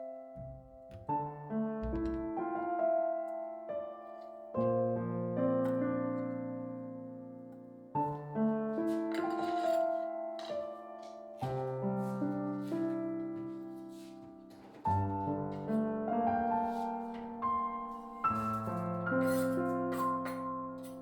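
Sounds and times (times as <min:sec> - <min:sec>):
slow soft piano: 0:00.0 - 0:21.0.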